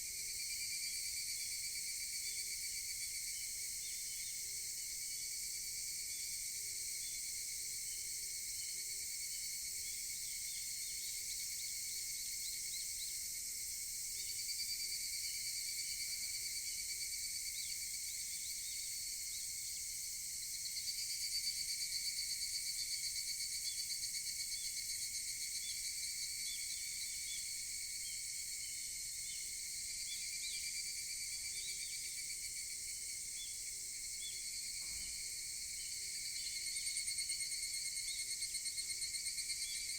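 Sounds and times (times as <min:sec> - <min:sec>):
cicadas calling in pulsed trills: 0:00.0 - 0:39.9
high-pitched insect chorus: 0:00.0 - 0:39.9.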